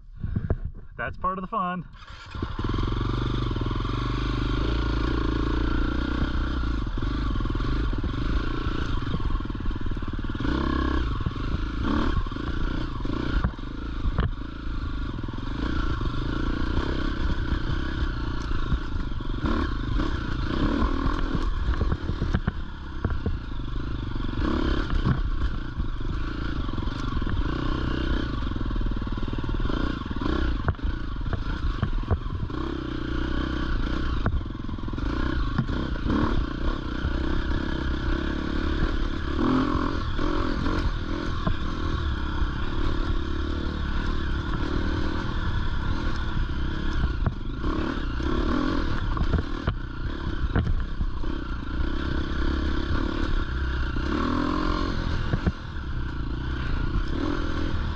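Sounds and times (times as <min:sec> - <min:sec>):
dirt bike engine revving: 0:01.0 - 0:57.9.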